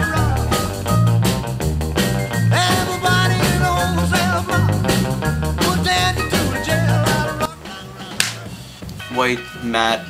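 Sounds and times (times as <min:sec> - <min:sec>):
rock and roll music: 0:00.0 - 0:10.0.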